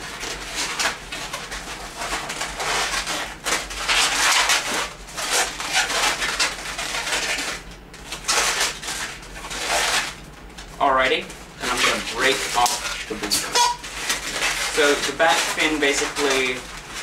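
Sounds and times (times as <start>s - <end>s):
balloons squeaking and rubbing: 0.0s - 10.2s, 11.6s - 17.0s.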